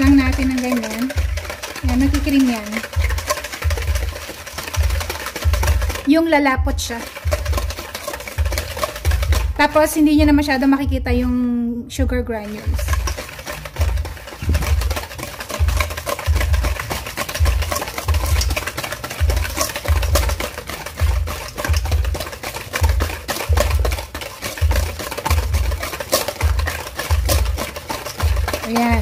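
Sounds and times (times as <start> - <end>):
whisk scraping steel bowl: 0.0 - 11.4, 12.0 - 29.0
background music with low beat: 0.0 - 29.0.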